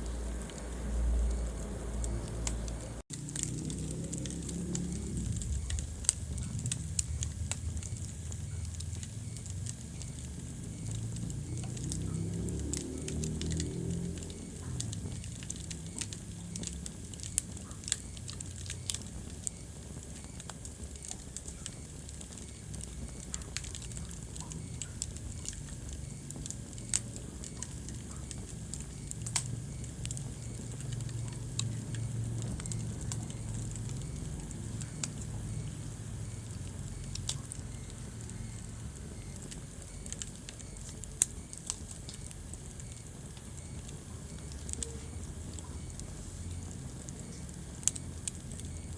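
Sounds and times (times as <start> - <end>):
low rumble of flame: 0.0 - 48.9
wood fire crackling and popping: 0.0 - 48.9.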